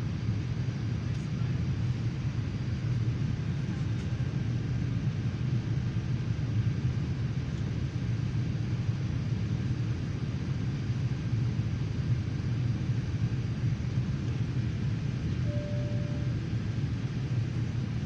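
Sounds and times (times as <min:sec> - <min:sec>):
jet engines rumbling in cabin: 0:00.0 - 0:18.0.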